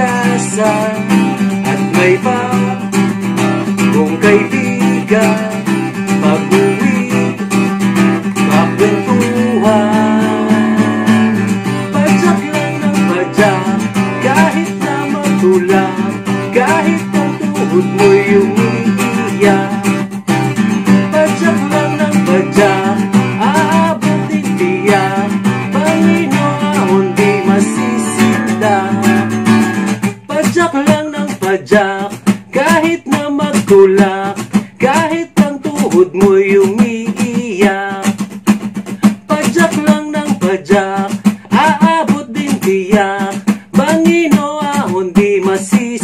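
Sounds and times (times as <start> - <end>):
person singing: 0.0 - 38.3, 38.9 - 46.0
acoustic guitar: 0.0 - 46.0.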